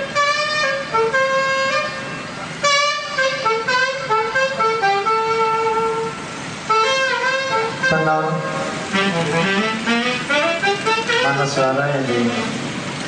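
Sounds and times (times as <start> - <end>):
alto saxophone melody: 0.0 - 11.6.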